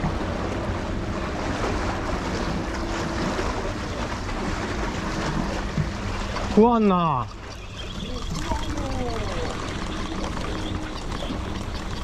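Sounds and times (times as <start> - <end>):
seawater washing against concrete: 0.0 - 12.0.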